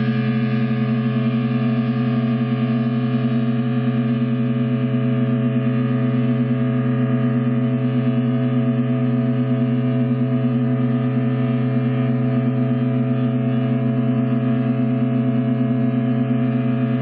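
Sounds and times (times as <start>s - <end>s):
experimental drone music: 0.0s - 17.0s.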